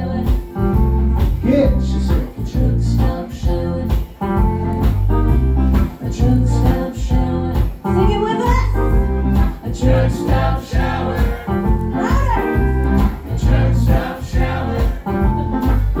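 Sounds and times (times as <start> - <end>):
drum kit beat: 0.0 - 16.0
electric guitar: 0.0 - 16.0
prominent bass line: 0.0 - 16.0.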